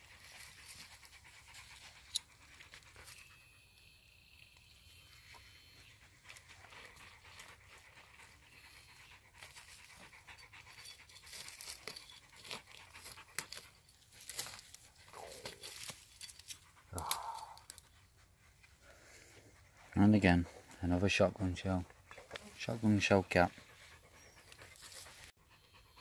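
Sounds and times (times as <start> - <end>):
dog panting: 0.0 - 3.7, 4.9 - 17.0, 17.6 - 26.0.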